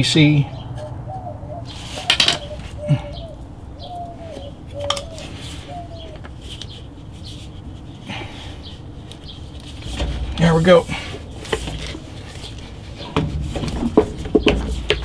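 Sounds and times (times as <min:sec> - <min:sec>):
bird calling: 0:00.0 - 0:15.0.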